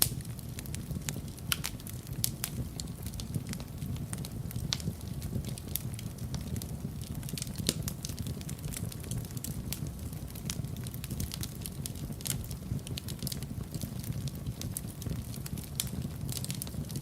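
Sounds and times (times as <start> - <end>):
fire crackles and pops: 0.0 - 17.0
low rumble of burning: 0.0 - 17.0.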